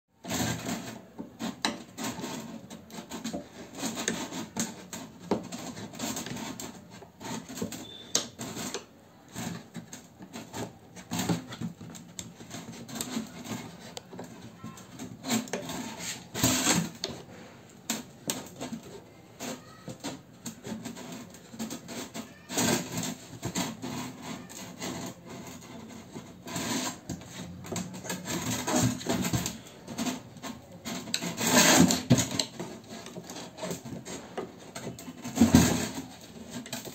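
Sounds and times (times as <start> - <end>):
box cutter scraping hard plastic: 0.2 - 36.9.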